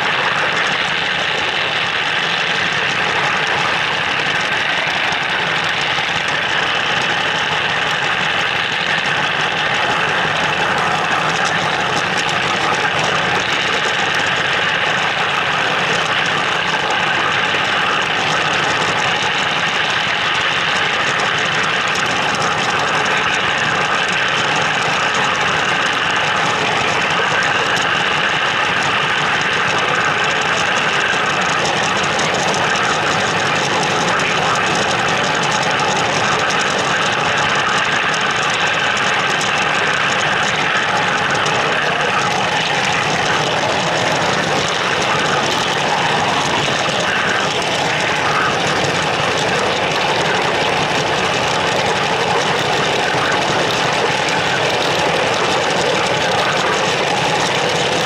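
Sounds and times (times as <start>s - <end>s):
model train rumbling on track: 0.0s - 58.0s.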